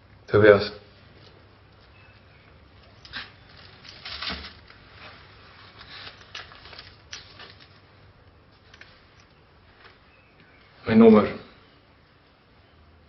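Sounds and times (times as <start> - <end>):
rustling and handling noises: 0.9 - 11.6.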